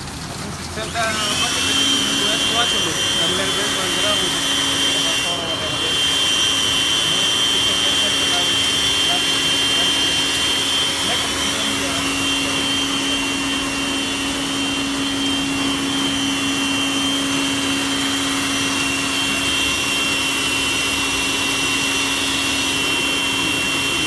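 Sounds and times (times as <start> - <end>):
small electric motor whining: 0.8 - 24.0.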